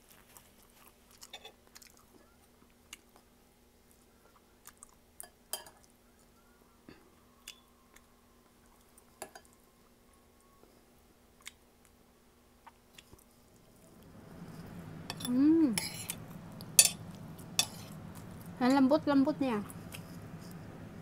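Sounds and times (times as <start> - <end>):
faint chewing: 0.0 - 6.5, 7.4 - 9.7, 10.4 - 12.0, 12.6 - 18.6, 19.6 - 20.7.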